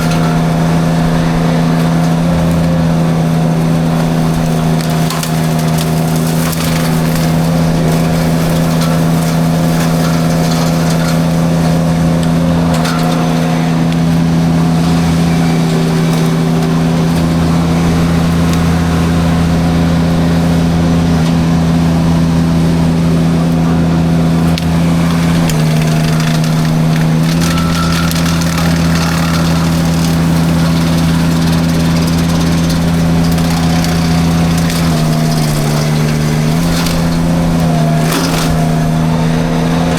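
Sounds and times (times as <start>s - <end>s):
mulcher crackling and splintering wood: 0.0s - 39.9s
skid steer engine under load: 0.0s - 39.9s.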